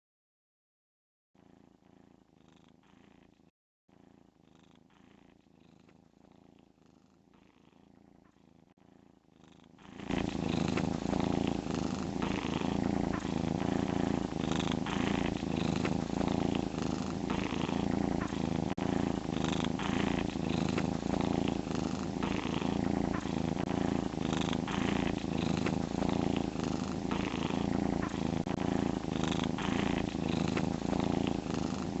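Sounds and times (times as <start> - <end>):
cat snoring: 1.4 - 32.0.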